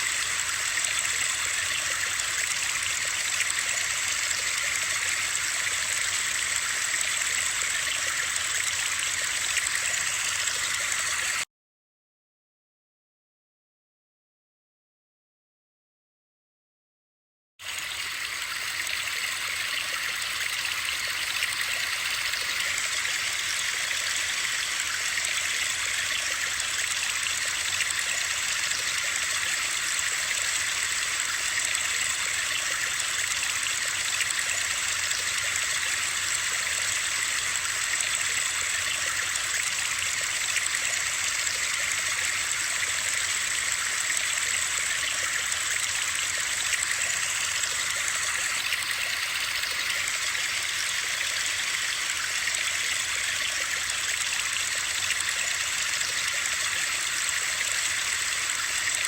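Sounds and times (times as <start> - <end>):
flowing water hiss: 0.0 - 11.4, 17.6 - 59.0.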